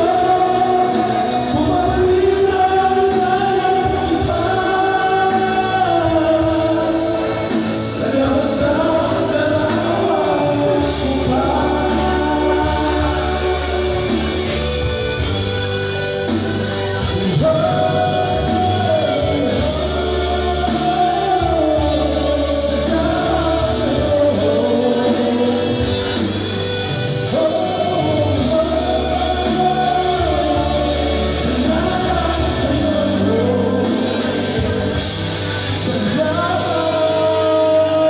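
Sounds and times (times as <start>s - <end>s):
amplified backing music: 0.0s - 38.0s
man singing: 0.0s - 38.0s.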